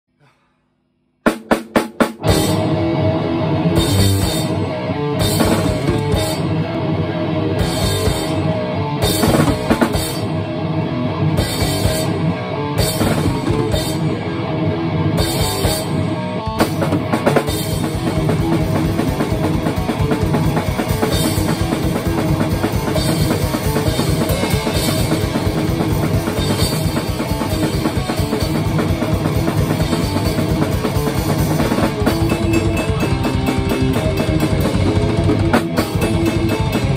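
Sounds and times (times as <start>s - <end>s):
drum kit: 1.2s - 10.5s, 11.3s - 36.9s
electric guitar: 2.0s - 36.9s.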